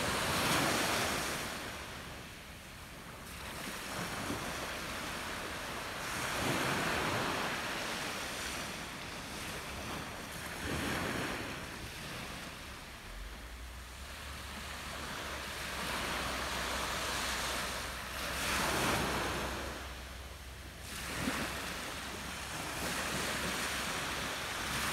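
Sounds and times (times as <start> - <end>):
waves washing up pebble beach: 0.0 - 2.0, 3.2 - 13.3, 14.0 - 20.1, 20.8 - 24.9.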